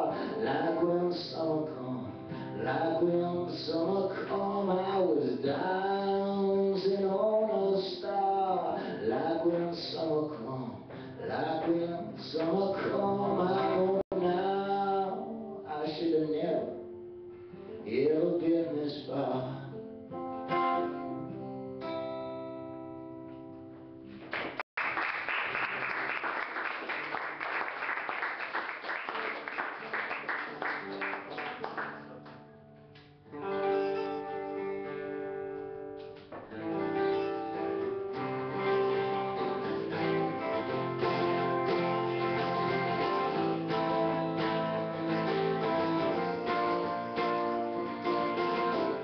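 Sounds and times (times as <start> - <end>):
acoustic guitar playing: 0.0 - 24.6, 28.5 - 49.0.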